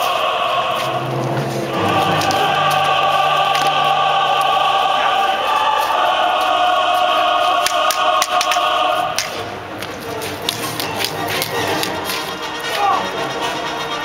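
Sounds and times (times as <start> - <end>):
choir singing held chords: 0.0 - 14.0
orchestral music: 0.0 - 14.0.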